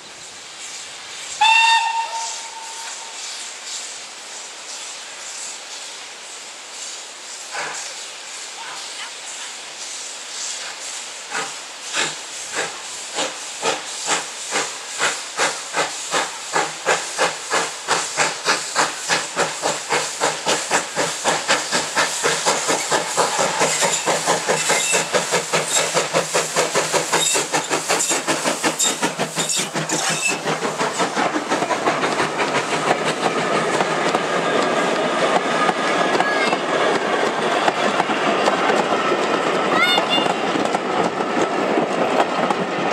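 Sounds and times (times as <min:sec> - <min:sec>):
steam hissing: 0:00.0 - 0:42.9
steam locomotive exhaust beats: 0:00.0 - 0:42.9.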